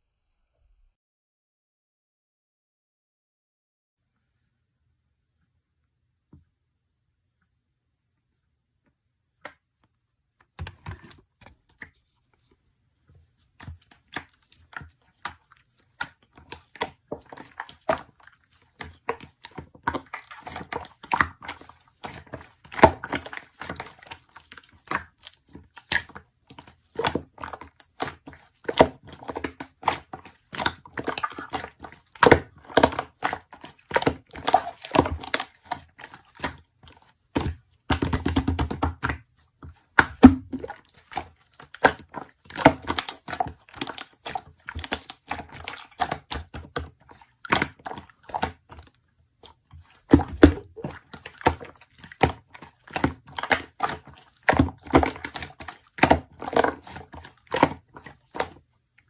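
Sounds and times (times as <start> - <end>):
objects crinkling and tapping: 9.4 - 58.6.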